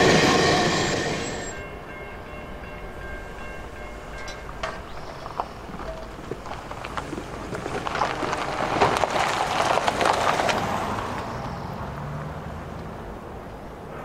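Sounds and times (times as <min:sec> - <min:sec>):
train rolling on rails: 0:00.0 - 0:12.0.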